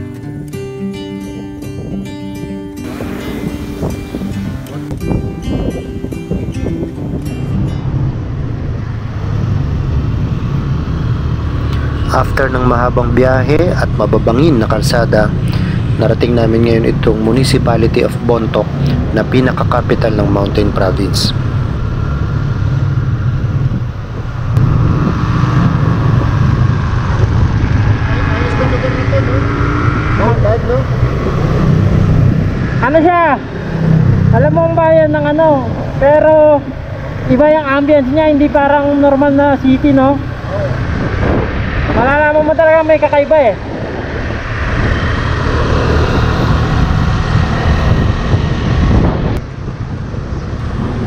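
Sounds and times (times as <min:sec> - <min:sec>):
motorcycle engine drone: 0:00.0 - 0:51.0
wind and road noise: 0:00.0 - 0:51.0.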